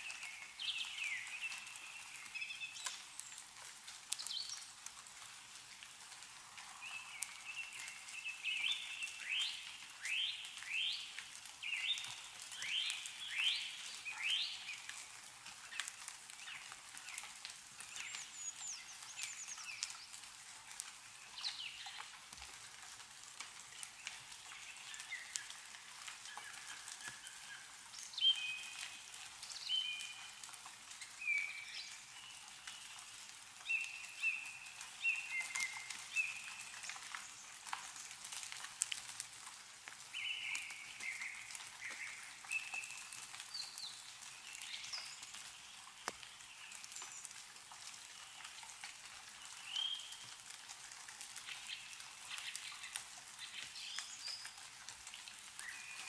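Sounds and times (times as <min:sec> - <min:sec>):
meltwater dripping from trees: 0:00.0 - 0:56.0.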